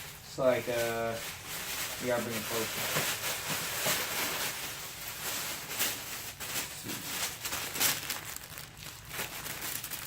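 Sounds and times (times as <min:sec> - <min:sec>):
tissue paper rustling: 0:00.0 - 0:10.0.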